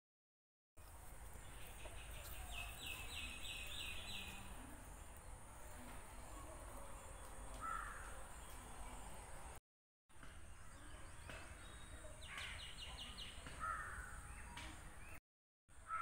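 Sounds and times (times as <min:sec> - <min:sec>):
birds calling: 0:00.8 - 0:09.1, 0:10.6 - 0:15.2.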